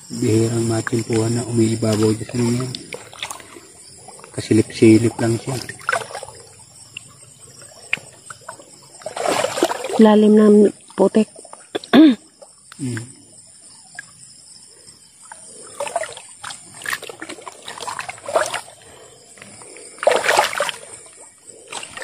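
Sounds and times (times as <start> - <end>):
river water splashing: 0.0 - 11.6, 15.2 - 22.0.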